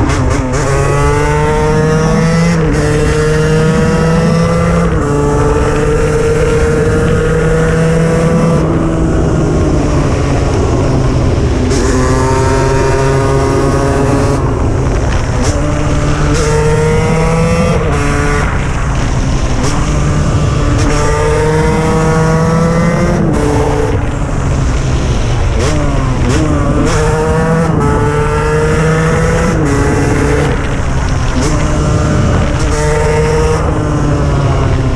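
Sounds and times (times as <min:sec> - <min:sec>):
two-stroke engine accelerating: 0:00.0 - 0:34.9.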